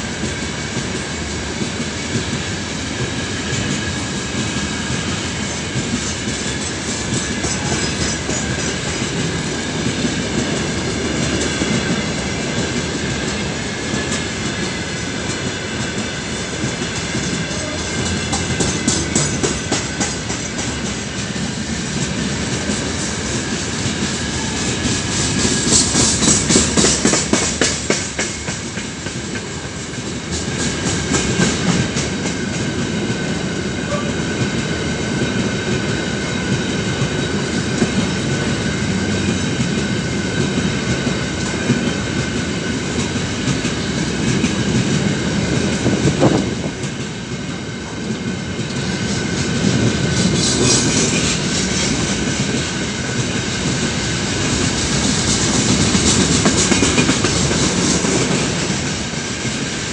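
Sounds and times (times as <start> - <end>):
train wheels rumbling on rail: 0.0 - 59.9
wheels clacking over rail joints: 0.7 - 34.6, 35.2 - 59.8.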